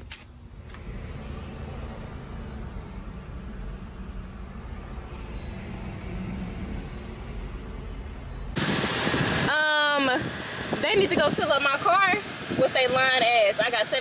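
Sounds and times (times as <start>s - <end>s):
car engine rumble from inside: 0.3s - 14.0s.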